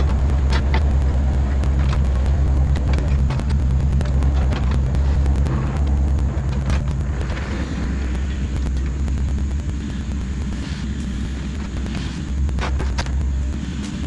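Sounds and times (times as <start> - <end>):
digging clicks and knocks: 0.0 - 14.0
excavator diesel engine running: 0.0 - 14.0.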